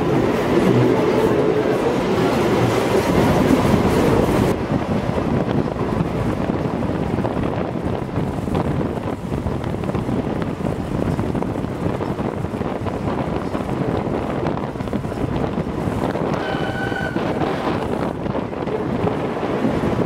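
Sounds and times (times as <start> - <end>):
steam train rumbling on track: 0.0 - 20.0
wind buffeting microphone: 0.0 - 20.0.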